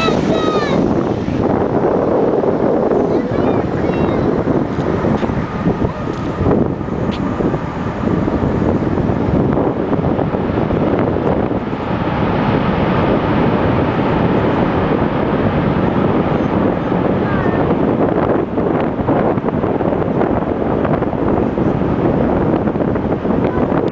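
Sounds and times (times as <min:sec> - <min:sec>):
distant jet engine rumble: 0:00.0 - 0:23.9
wind buffeting microphone: 0:00.0 - 0:23.9.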